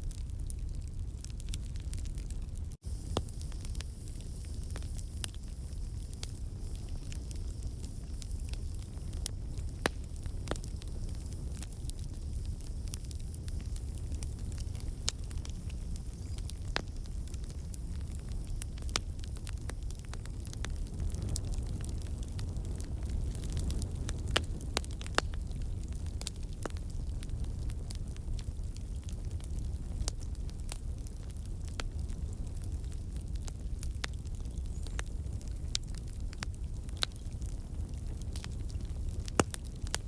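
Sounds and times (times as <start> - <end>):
campfire crackling and popping: 0.0 - 40.0
low rumble of flames: 0.0 - 40.0.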